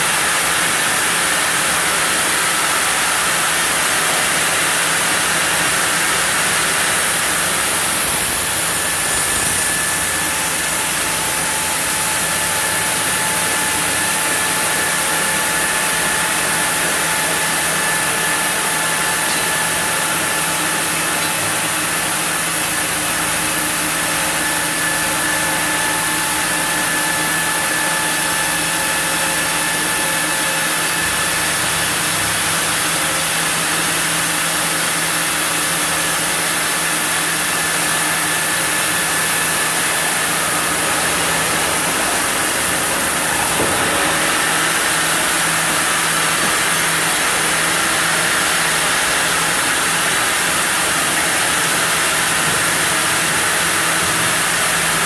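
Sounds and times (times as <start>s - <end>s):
sawmill machinery milling wood: 0.0s - 55.0s.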